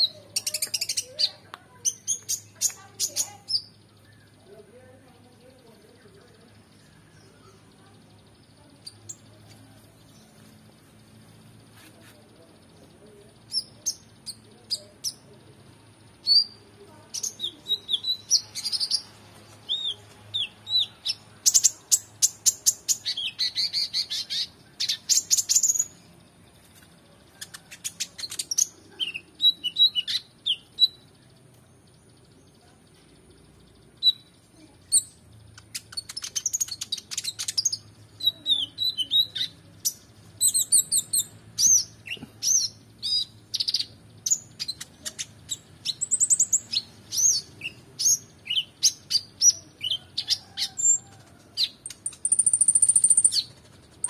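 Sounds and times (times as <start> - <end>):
sunbird singing: 0.0 - 54.0.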